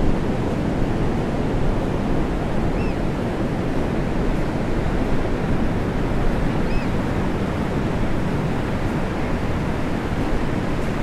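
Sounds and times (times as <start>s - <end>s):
ocean waves breaking on beach: 0.0s - 11.0s.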